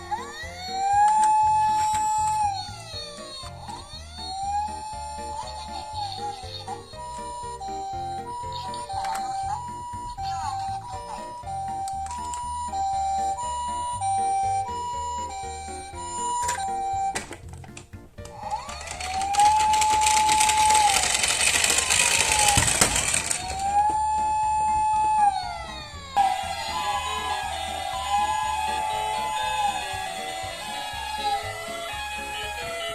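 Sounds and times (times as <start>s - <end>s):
two-tone ambulance siren: 0.0s - 17.4s, 18.5s - 32.9s
background music with beat: 0.0s - 32.9s.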